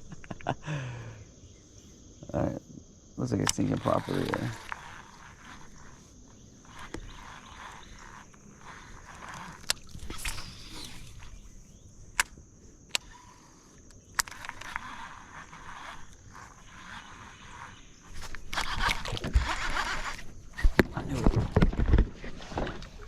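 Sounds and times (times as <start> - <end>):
sharp clicks: 3.3 - 21.9.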